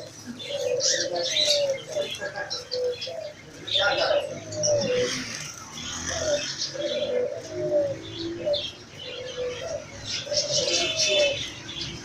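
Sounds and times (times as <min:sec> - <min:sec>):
birds chirping: 0:00.0 - 0:12.0
pigeons cooing: 0:00.0 - 0:12.0.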